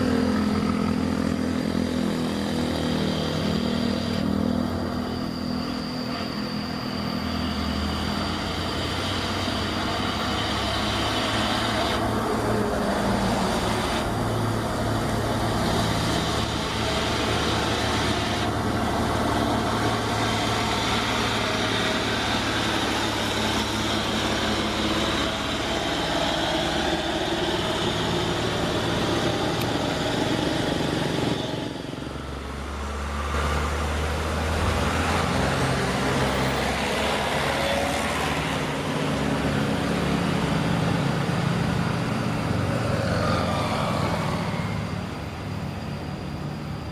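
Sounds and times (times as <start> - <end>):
toy excavator motor drone: 0.0 - 46.9.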